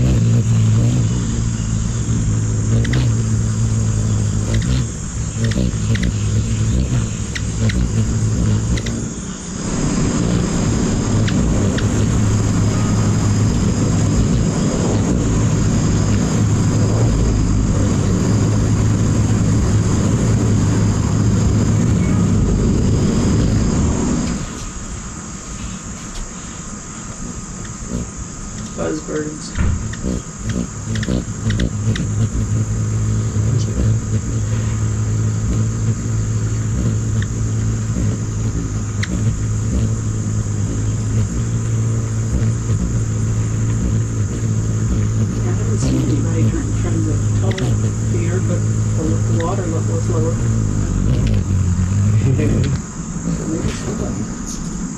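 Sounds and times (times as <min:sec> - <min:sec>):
hummingbird wings humming: 0:00.0 - 0:54.9.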